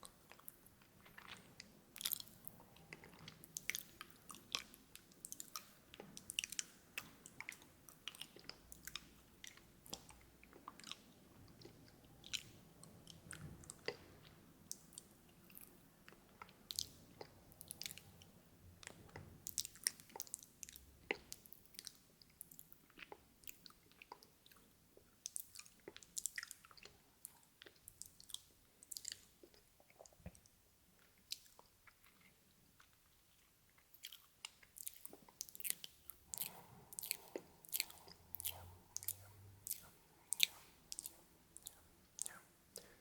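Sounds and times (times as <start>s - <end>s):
wet lip and tongue clicks: 0.0s - 43.0s.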